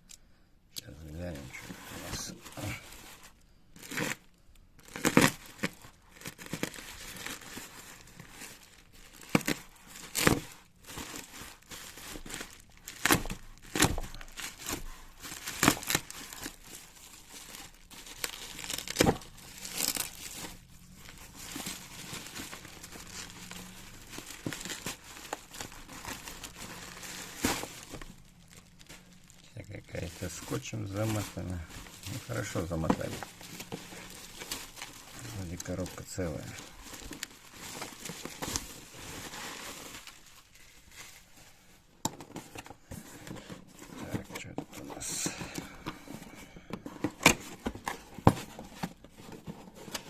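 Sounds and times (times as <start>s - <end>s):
packaging crinkling and ripping: 0.9s - 50.0s.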